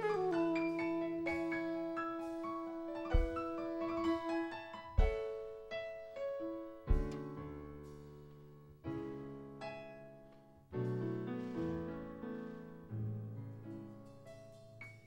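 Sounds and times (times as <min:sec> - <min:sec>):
piano slow chords: 0:00.0 - 0:15.0.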